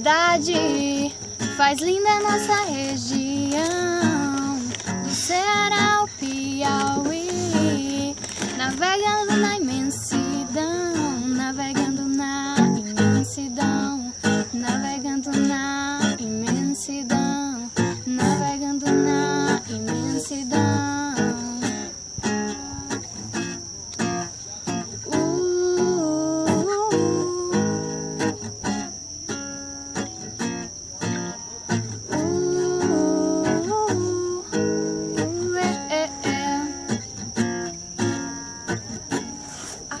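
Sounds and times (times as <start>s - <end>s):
acoustic guitar melody: 0.0s - 40.0s.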